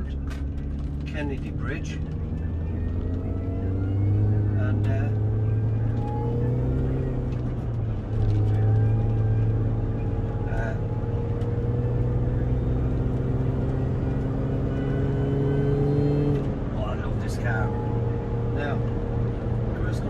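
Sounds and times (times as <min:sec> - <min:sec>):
car engine cruising: 0:00.0 - 0:20.0
road noise: 0:00.0 - 0:20.0.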